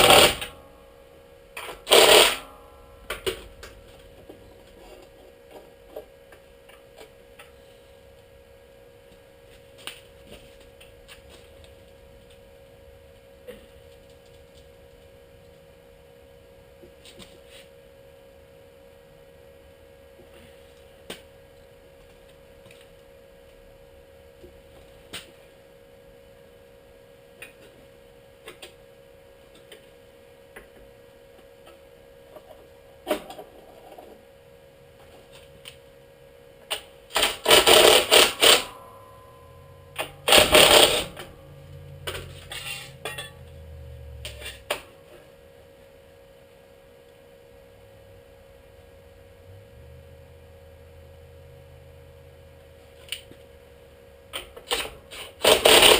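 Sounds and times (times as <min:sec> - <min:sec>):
steady hum: 0:00.0 - 0:55.9.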